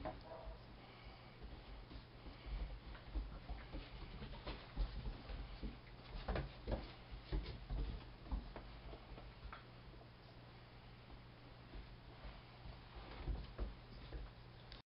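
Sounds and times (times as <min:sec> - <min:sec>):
puppy paws scrabbling on wooden deck: 0:01.3 - 0:10.3, 0:11.1 - 0:14.6.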